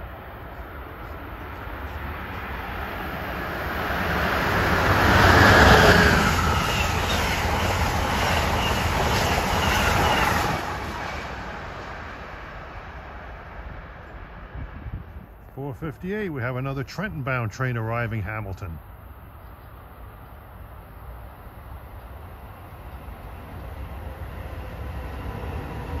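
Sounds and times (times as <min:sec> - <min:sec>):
passenger train passing: 0:00.0 - 0:26.0.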